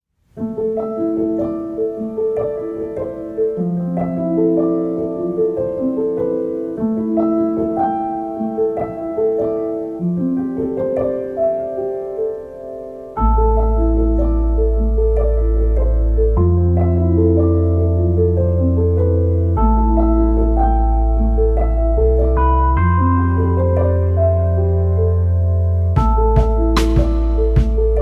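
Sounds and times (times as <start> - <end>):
gentle piano melody: 0.2 - 28.0.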